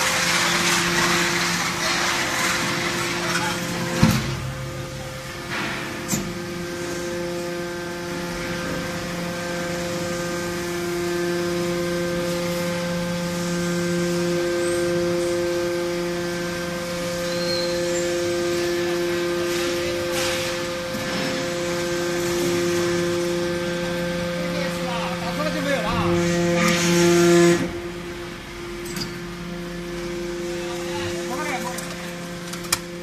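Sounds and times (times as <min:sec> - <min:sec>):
hydraulic pump whining hum: 0:00.0 - 0:33.0.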